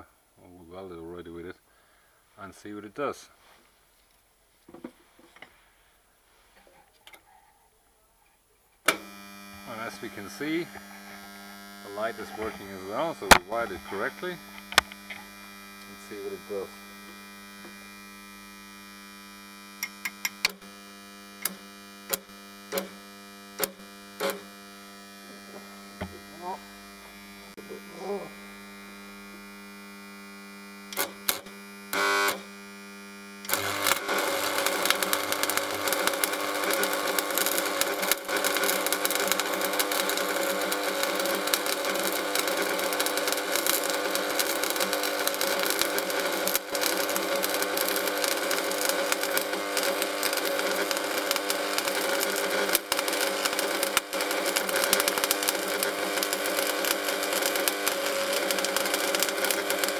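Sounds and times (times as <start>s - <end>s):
welder transformer buzz: 8.8s - 59.9s
welding arc crackling sizzle: 8.8s - 59.9s.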